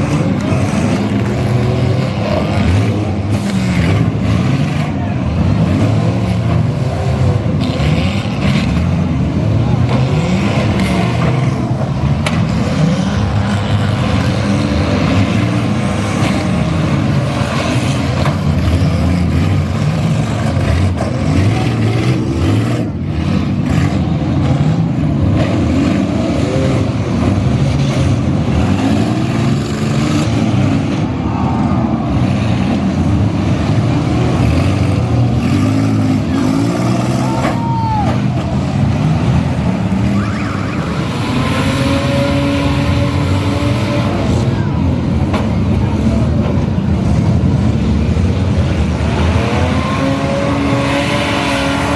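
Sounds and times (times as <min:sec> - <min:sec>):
car engines revving: 0:00.0 - 0:51.9.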